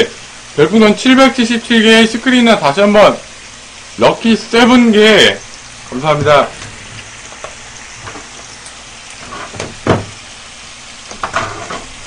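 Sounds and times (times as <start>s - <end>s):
meat sizzling on a griddle: 0.0s - 12.0s.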